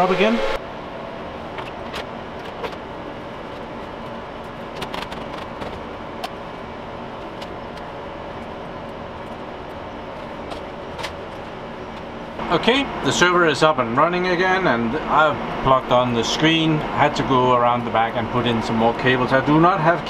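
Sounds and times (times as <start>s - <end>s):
server cooling fans: 0.0s - 20.0s.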